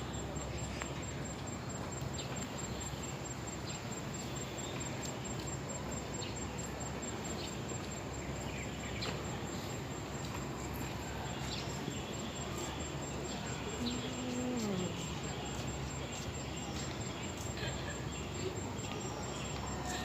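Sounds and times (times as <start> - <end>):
continuous high-pitched tone: 0.0 - 20.0
steady background noise: 0.0 - 20.0.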